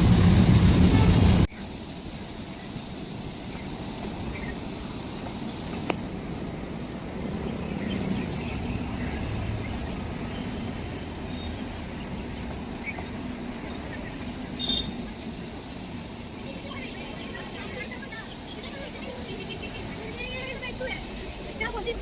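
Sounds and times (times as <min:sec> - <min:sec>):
faint high hiss: 0:00.0 - 0:22.0
train rumble: 0:00.0 - 0:22.0.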